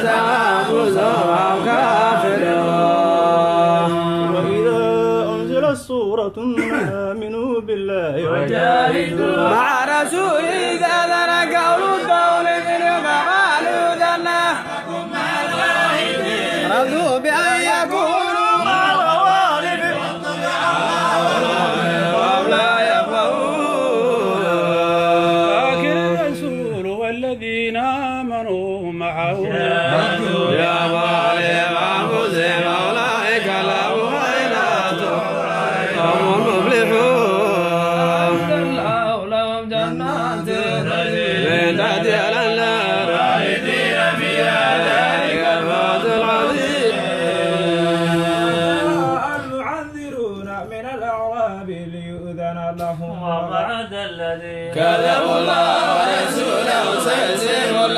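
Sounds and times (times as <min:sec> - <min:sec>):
men chanting melodically: 0:00.0 - 0:57.9.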